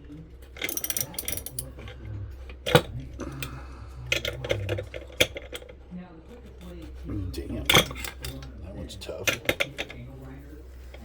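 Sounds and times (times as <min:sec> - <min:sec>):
low steady hum: 0:00.0 - 0:11.0
metal tools clinking and scraping: 0:00.4 - 0:07.0, 0:07.6 - 0:11.0.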